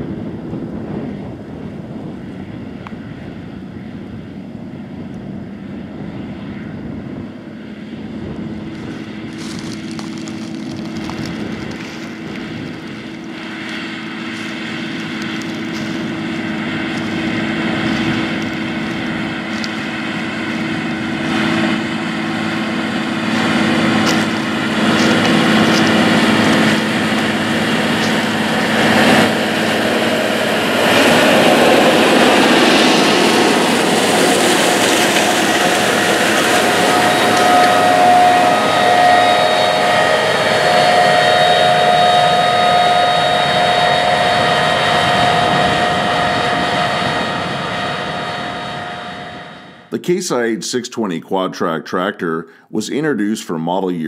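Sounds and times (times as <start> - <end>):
tractor diesel engine under load: 7.0 - 52.8.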